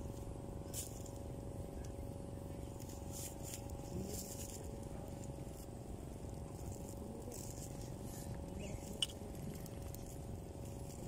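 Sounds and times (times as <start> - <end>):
faint hum: 0.0 - 11.0
faint rustles: 0.0 - 11.0.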